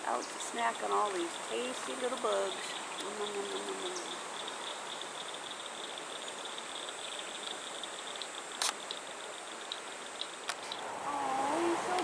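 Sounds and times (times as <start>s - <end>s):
insect chorus trilling: 0.0s - 12.0s
river water flowing: 0.0s - 12.0s.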